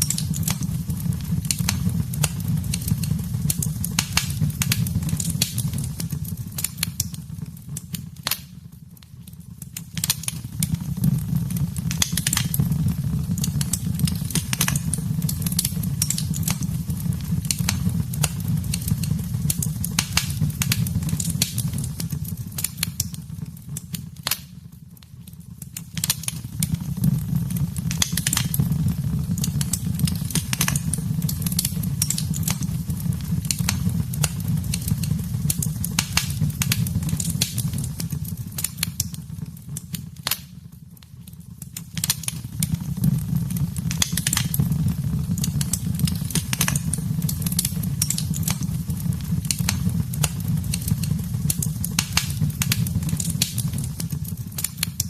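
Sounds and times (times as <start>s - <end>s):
low steady rumble: 0.0s - 55.0s
wood fire crackling: 0.0s - 55.0s.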